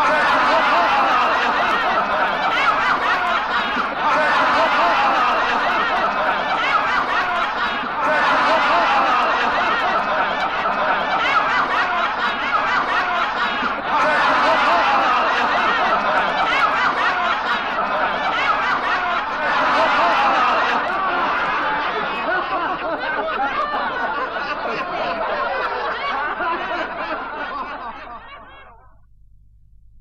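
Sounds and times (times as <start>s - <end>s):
crowd laughing: 0.0s - 29.1s.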